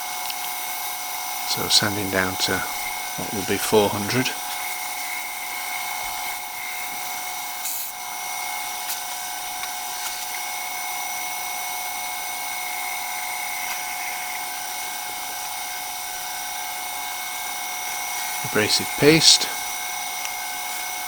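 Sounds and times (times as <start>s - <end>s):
wood lathe whine: 0.0s - 21.0s.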